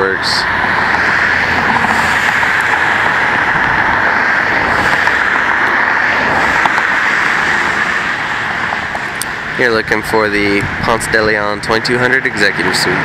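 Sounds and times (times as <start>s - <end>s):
highway traffic: 0.0s - 13.0s.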